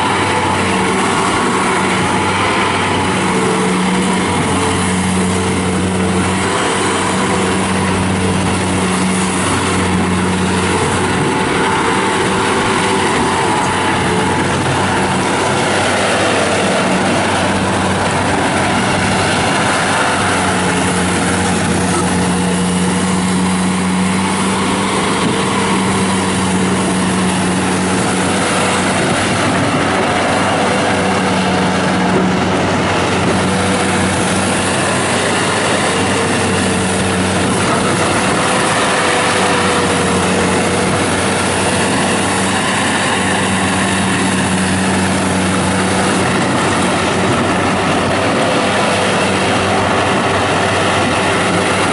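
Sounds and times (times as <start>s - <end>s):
loader diesel engine drone: 0.0s - 51.9s.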